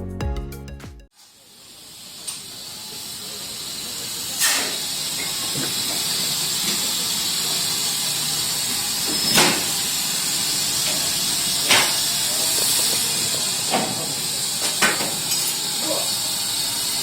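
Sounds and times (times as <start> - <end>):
steam locomotive hissing: 1.2 - 17.0.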